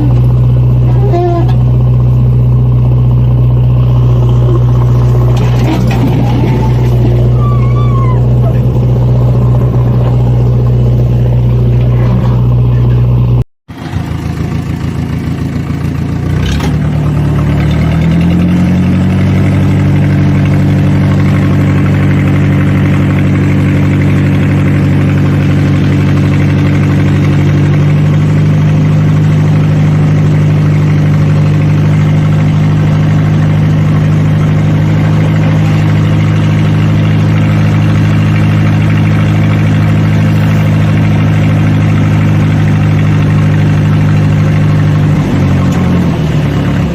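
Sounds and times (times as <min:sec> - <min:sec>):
tractor diesel engine: 0:00.0 - 0:46.9.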